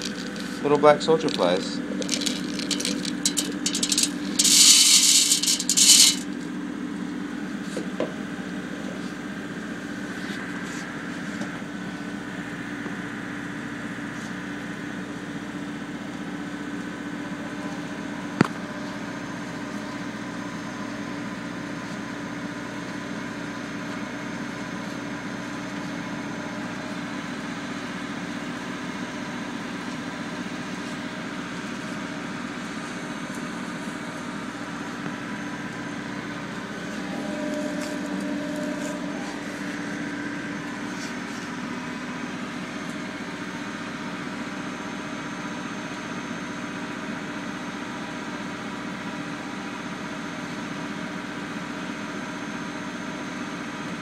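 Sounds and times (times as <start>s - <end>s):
oil press machine hum: 0.0s - 54.0s.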